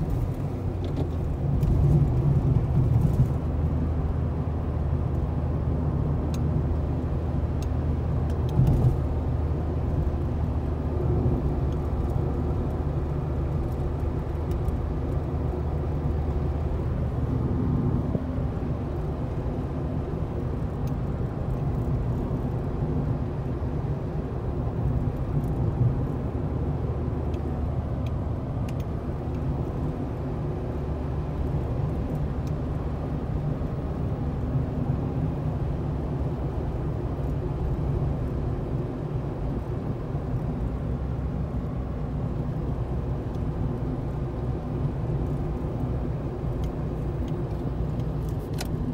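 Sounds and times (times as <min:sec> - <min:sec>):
car engine cruising: 0:00.0 - 0:48.9
tyres rumbling on road: 0:00.0 - 0:48.9.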